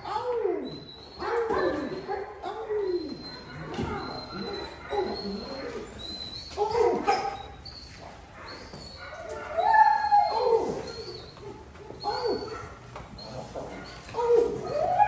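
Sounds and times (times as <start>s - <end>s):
puppy whining and yelping: 0.6s - 15.0s.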